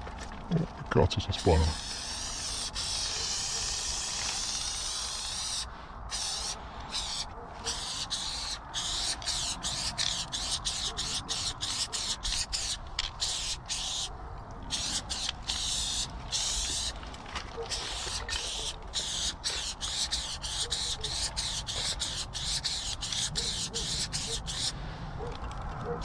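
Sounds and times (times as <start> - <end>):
spray paint can hissing: 1.6 - 14.1, 14.7 - 17.0, 17.7 - 24.8.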